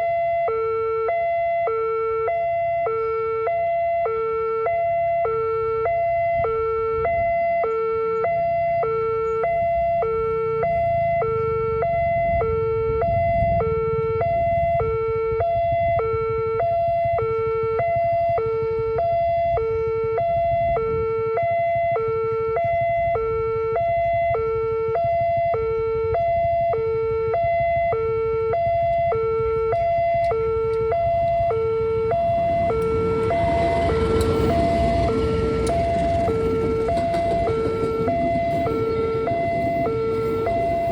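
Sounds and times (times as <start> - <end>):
two-tone level crossing siren: 0.0 - 40.9.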